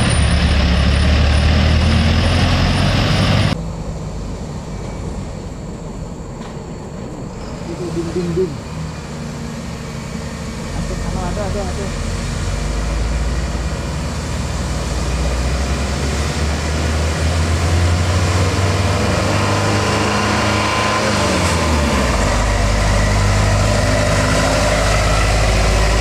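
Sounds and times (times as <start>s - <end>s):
truck diesel engine under load: 0.0s - 26.0s.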